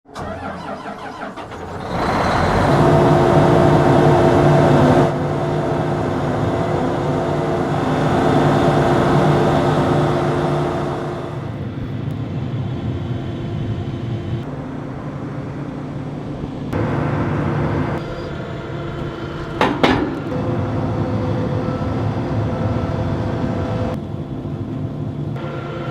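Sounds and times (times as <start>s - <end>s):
combine harvester engine drone: 0.1s - 25.9s.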